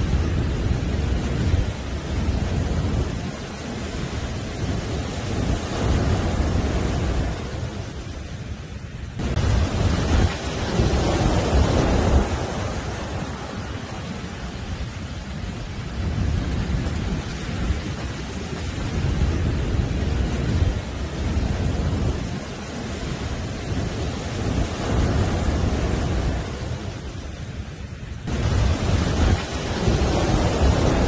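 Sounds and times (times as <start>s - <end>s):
surf breaking on a beach: 0.0s - 31.0s.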